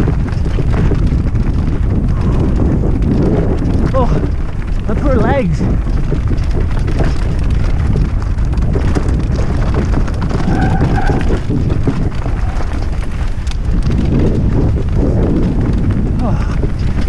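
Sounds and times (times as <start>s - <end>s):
bike tyres rattling over stones: 0.0s - 17.0s
wind rumble on microphone: 0.0s - 17.0s.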